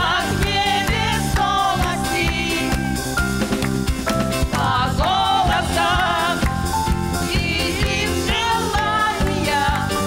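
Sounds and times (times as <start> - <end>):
women singing pop duet: 0.0 - 3.0, 4.5 - 10.0
band with keyboard and guitar: 0.0 - 10.0.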